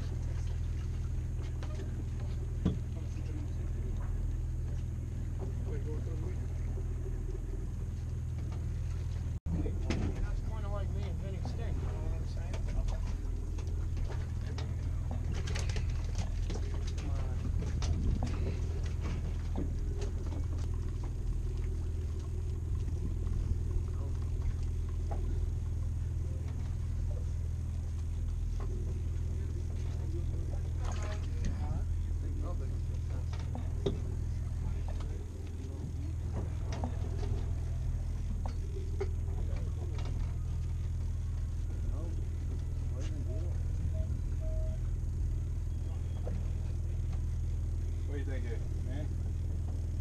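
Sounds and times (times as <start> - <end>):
boat engine rumbling: 0.0 - 50.0.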